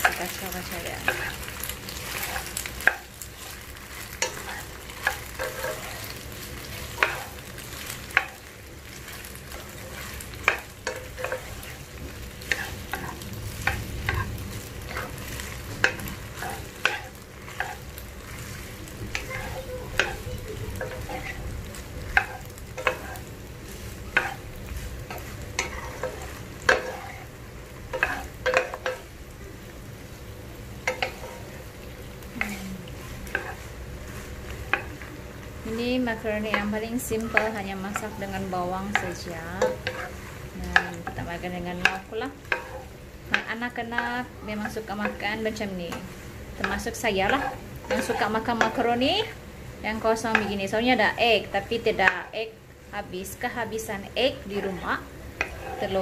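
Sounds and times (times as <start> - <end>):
spoon scraping frying pan: 0.0 - 29.2, 30.7 - 52.4, 53.4 - 56.0
frying sizzle: 0.0 - 56.0.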